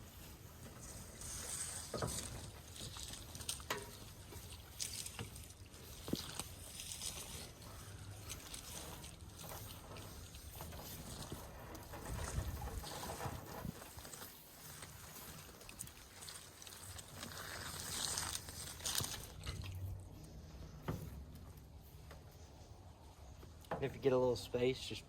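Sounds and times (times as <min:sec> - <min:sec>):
hose swishing against reel: 0:00.0 - 0:21.2.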